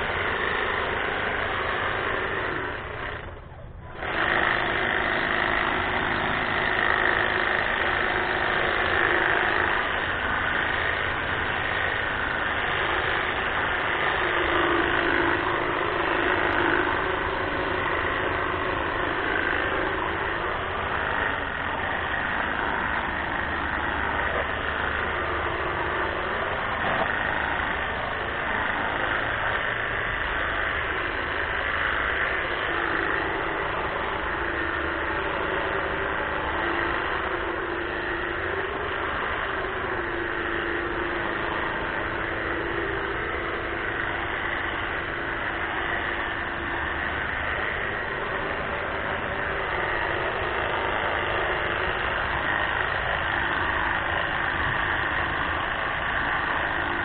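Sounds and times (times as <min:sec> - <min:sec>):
hedge trimmer buzzing: 0:00.0 - 0:57.0.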